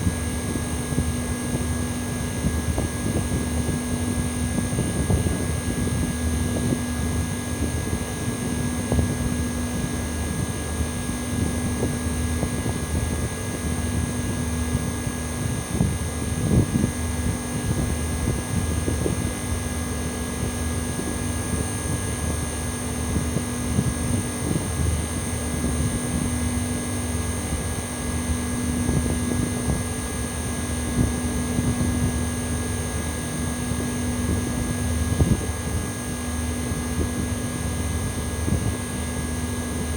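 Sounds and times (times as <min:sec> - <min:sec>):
air conditioner hum: 0:00.0 - 0:39.9
air conditioner metallic whine: 0:00.0 - 0:39.9.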